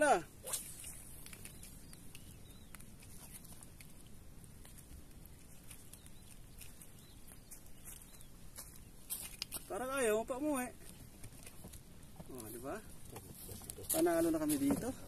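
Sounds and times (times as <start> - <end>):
low outdoor background noise: 0.0 - 15.0.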